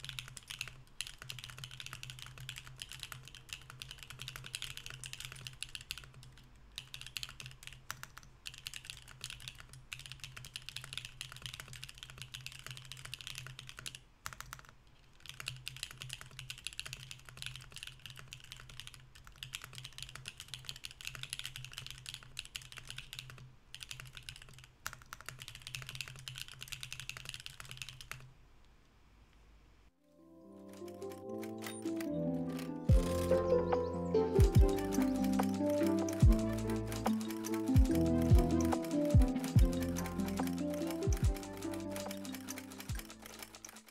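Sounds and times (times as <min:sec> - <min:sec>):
mechanical keyboard typing: 0:00.0 - 0:28.3, 0:30.6 - 0:43.9.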